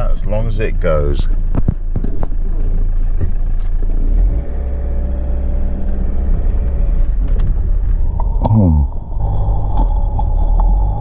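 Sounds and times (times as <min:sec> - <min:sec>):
road noise: 0:00.0 - 0:11.0
van engine droning: 0:00.0 - 0:11.0.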